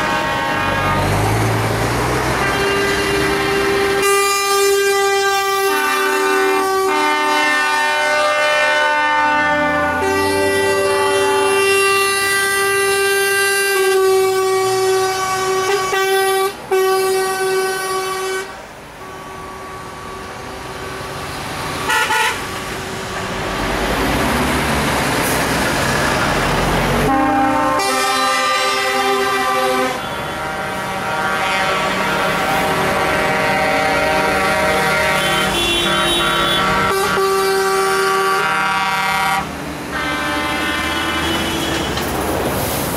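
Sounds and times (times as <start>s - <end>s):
truck air horns blasting: 0.0s - 23.0s, 27.0s - 42.1s
passing vehicle noise: 0.0s - 42.9s.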